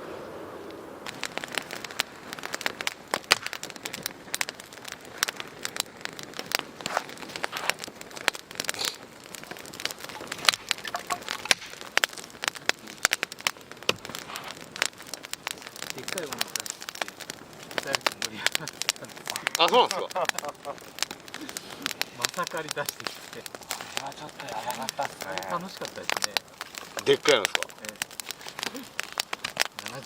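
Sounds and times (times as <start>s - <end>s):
firewood crackling and popping: 0.0s - 30.0s.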